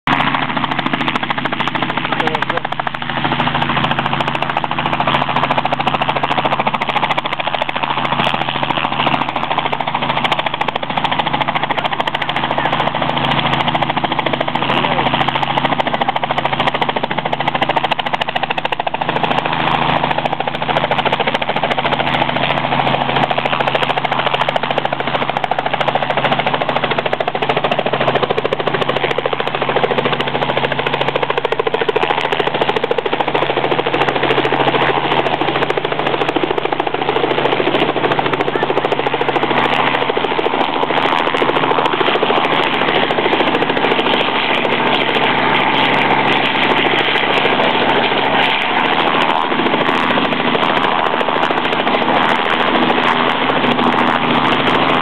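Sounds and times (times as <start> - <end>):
helicopter rotor beating: 0.1 - 55.0.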